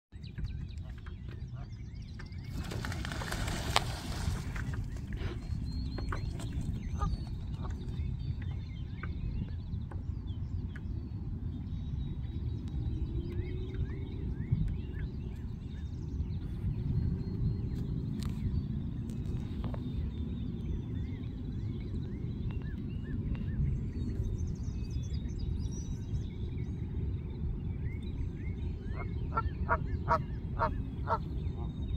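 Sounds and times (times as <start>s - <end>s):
steady low rumble: 0.2s - 31.9s.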